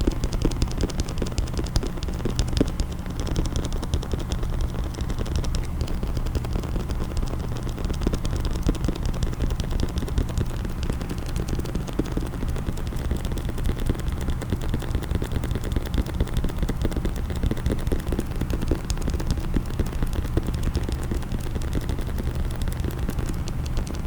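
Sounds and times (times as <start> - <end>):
fast tapping on a case: 0.0 - 24.0.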